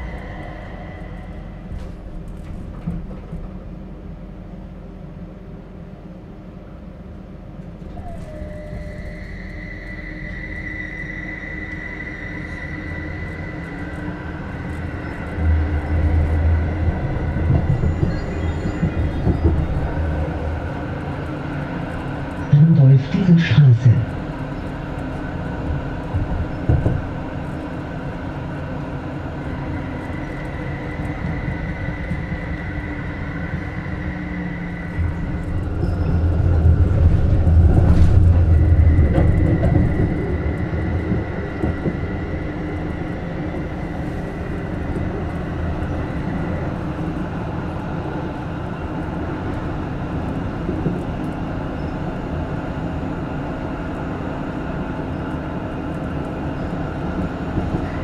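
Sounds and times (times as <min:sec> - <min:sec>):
tram running rumble: 0:00.0 - 0:58.0.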